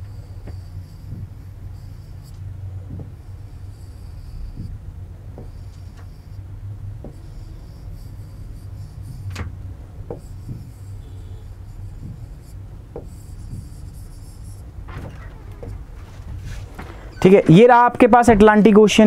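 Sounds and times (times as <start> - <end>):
pen rubbing on drawing board: 0.0 - 16.8
steady low hum: 0.0 - 19.0.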